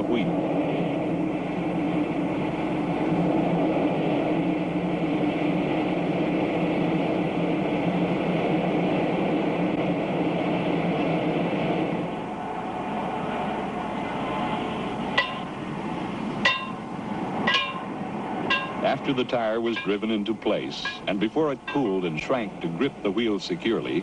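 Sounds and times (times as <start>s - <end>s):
gas burners rushing: 0.0s - 24.0s.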